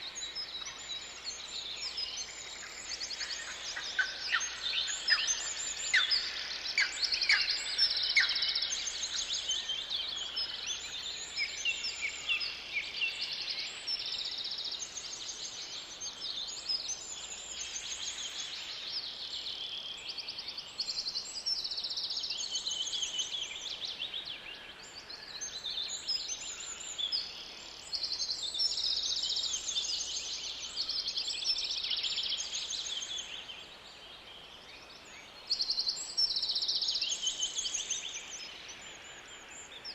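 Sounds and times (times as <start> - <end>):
wild birds singing: 0.0 - 39.9.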